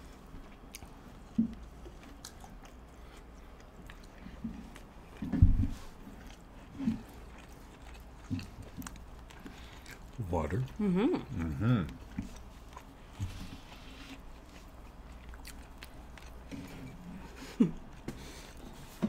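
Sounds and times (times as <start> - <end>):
close-miked chewing: 0.0 - 19.0.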